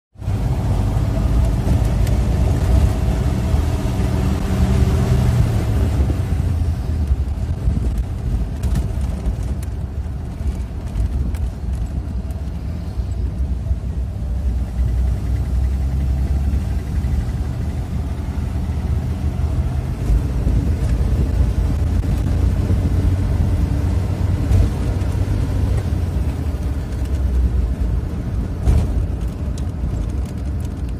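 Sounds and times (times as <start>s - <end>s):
road noise: 0.1s - 30.9s
car engine running: 0.2s - 30.9s.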